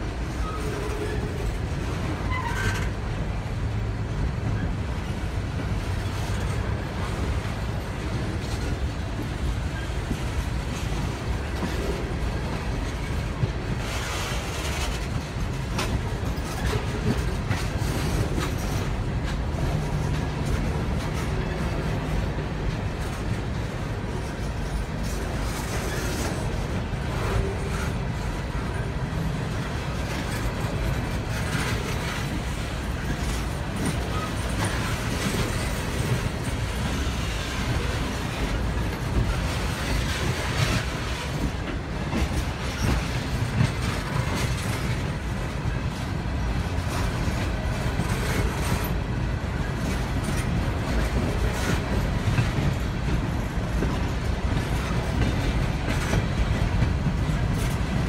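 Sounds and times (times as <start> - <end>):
steady train rumble: 0.0 - 58.0
train wheels clattering over rails: 0.0 - 58.0.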